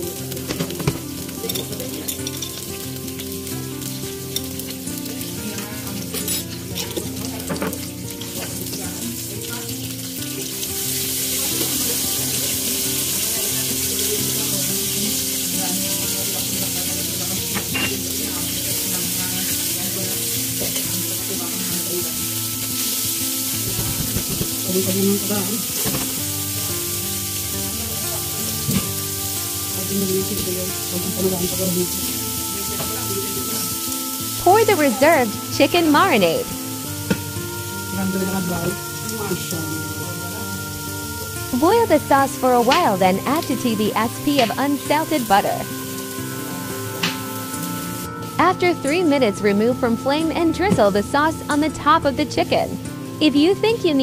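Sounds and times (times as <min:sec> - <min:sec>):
capers sizzling in oil: 0:00.0 - 0:54.0.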